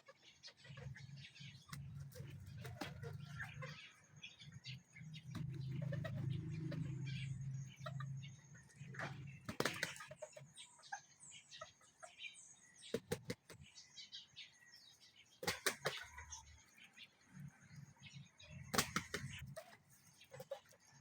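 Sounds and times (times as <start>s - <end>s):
chickens clucking and chirping: 0.0s - 21.0s.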